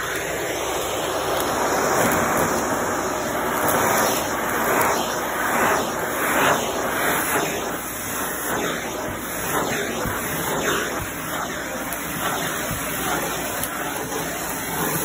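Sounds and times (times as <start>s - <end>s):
vacuum cleaner on carpet: 0.0s - 15.0s.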